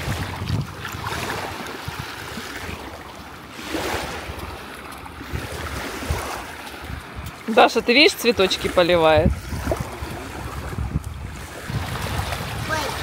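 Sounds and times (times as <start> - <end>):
small waves lapping on shore: 0.0 - 13.0
wind rumbling on microphone: 0.0 - 13.0.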